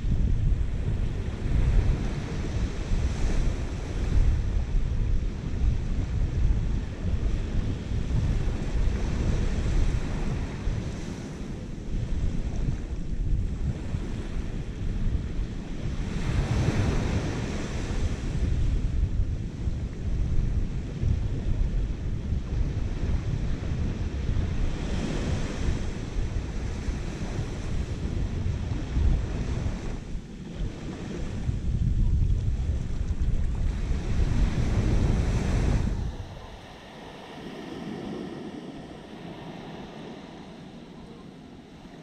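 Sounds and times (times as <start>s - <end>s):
small waves washing on shore: 0.0s - 42.0s
wind buffeting microphone: 0.0s - 42.0s.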